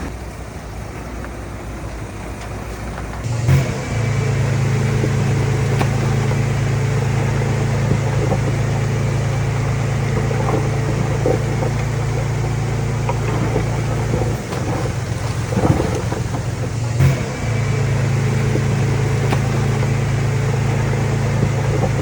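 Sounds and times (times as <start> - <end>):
diesel engine running: 0.0 - 22.0
knocks and clanks: 3.0 - 22.0.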